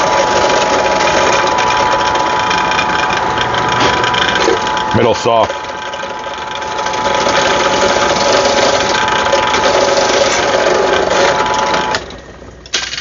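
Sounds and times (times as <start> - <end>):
electric drill boring metal: 0.0 - 13.0.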